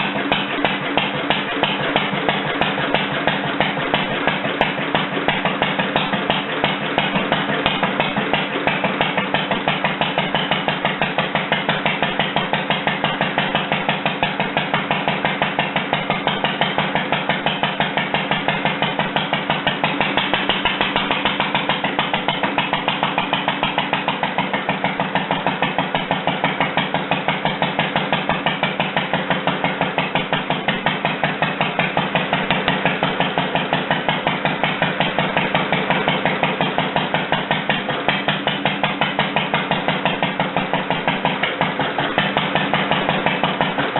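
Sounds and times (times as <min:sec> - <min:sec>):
single-cylinder engine running: 0:00.0 - 0:43.9.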